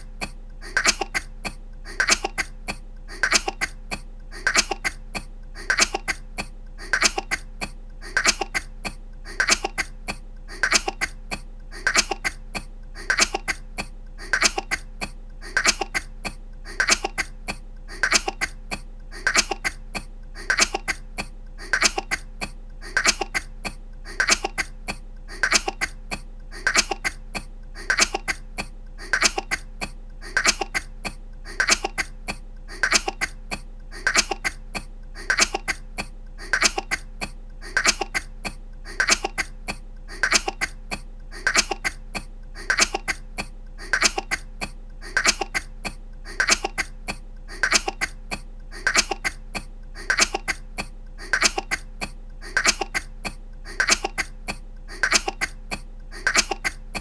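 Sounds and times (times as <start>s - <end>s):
woman coughing: 0.0s - 57.0s.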